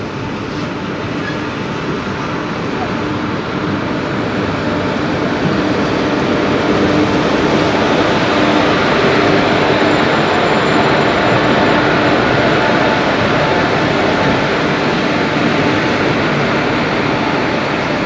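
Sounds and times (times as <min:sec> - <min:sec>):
train coaches rumbling by: 0:00.0 - 0:18.0
train wheels pushing through water: 0:00.0 - 0:18.0.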